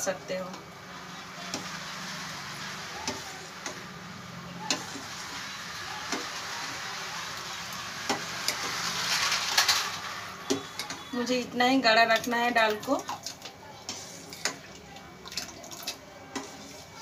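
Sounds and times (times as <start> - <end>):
ladle stirring thick food: 0.3 - 17.0.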